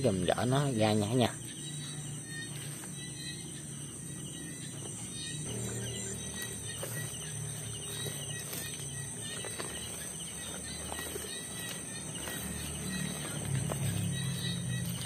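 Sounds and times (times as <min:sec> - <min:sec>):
crickets trilling: 0:00.0 - 0:15.0
rustles through grass: 0:00.9 - 0:15.0.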